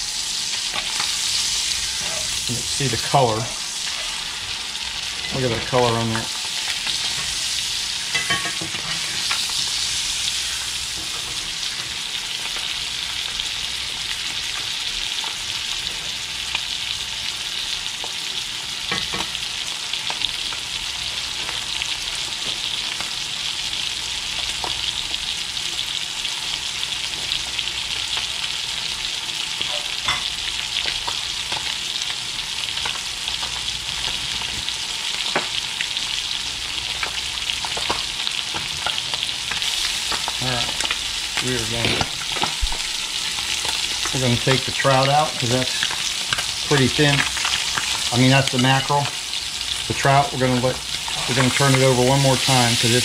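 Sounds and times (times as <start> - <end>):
fish sizzling in a skillet: 0.0 - 53.0.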